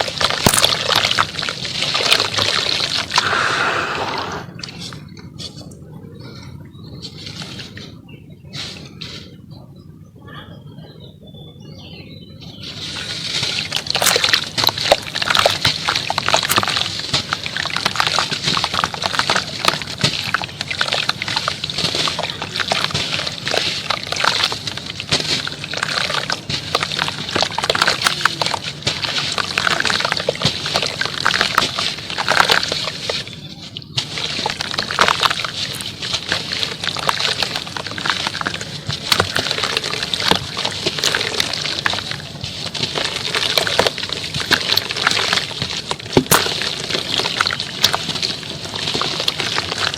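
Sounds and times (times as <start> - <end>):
water sloshing: 0.0 - 9.3, 12.4 - 49.9
wet cement crackling: 0.0 - 9.6, 11.8 - 49.9.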